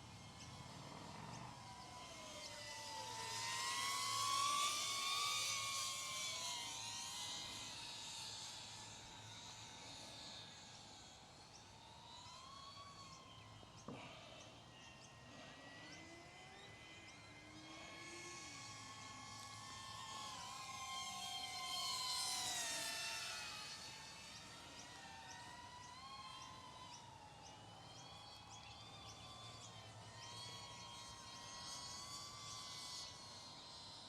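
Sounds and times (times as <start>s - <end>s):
drone propellers whining: 0.0s - 34.0s.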